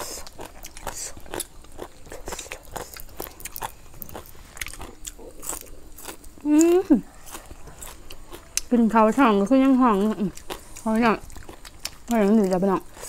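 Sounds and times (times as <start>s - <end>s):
chewing crisp vegetables: 0.0s - 13.0s.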